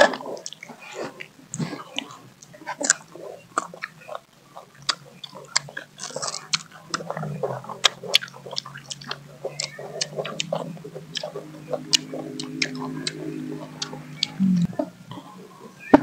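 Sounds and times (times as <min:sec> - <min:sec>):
low steady hum: 0:00.0 - 0:16.0
people crunching and chewing: 0:00.0 - 0:16.0.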